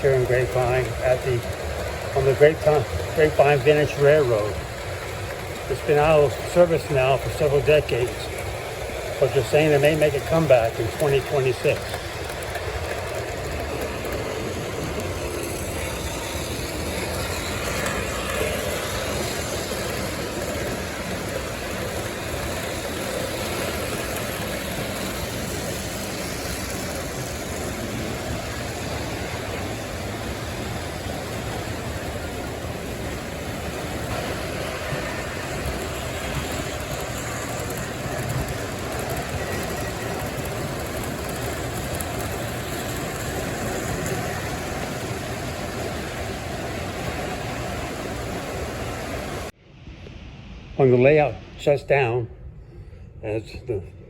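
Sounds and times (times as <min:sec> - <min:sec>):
model train motor hum: 0:00.0 - 0:49.5
wheels on track: 0:00.0 - 0:49.6.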